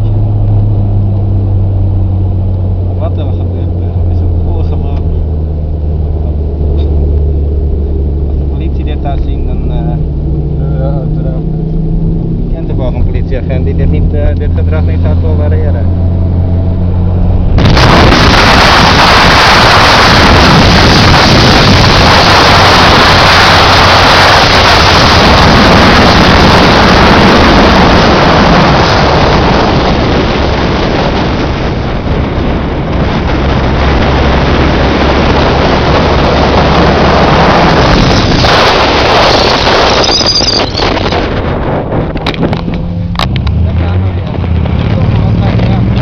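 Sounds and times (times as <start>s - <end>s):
car engine low hum: 0.0s - 46.0s
wind and road noise: 0.0s - 46.0s.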